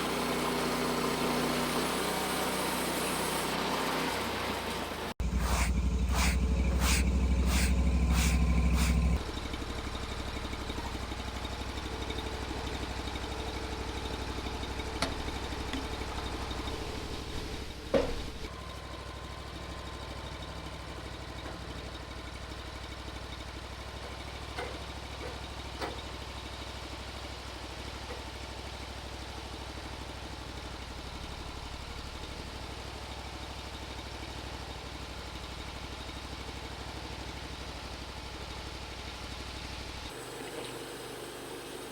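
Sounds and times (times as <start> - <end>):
small gas engine running: 0.0 - 24.1, 25.2 - 41.9.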